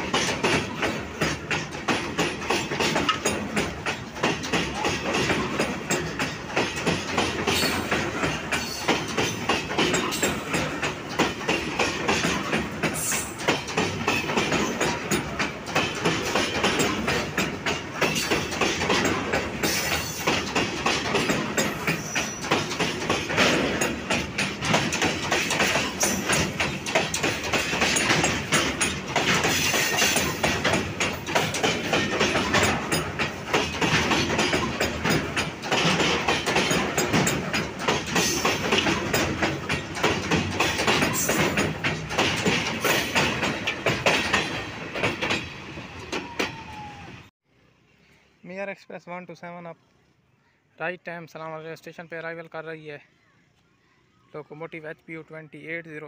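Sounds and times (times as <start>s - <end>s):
train wheels clattering over rail joints: 0.0s - 47.3s.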